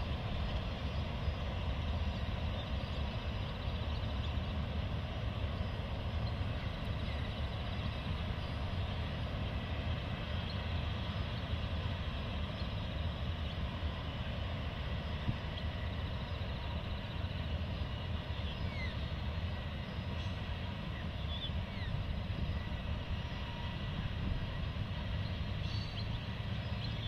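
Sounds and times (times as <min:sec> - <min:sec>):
train rumbling over viaduct: 0:00.0 - 0:27.0.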